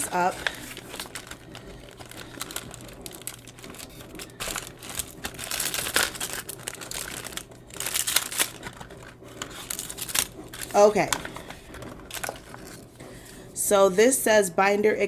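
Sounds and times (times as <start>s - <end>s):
plastic and paper wrapping crinkling: 0.0s - 13.6s.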